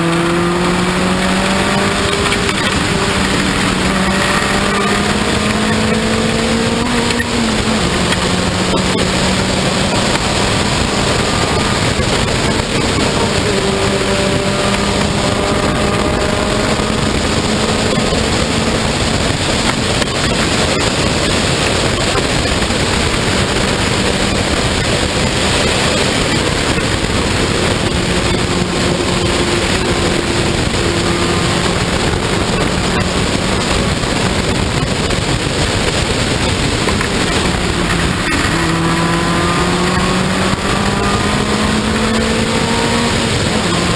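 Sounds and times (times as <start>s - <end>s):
race car engine at speed: 0.0s - 43.9s
wind rush on microphone: 0.0s - 43.9s.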